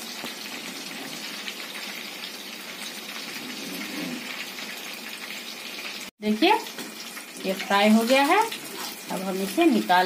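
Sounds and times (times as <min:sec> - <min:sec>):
prawns sizzling in hot oil: 0:00.0 - 0:10.0.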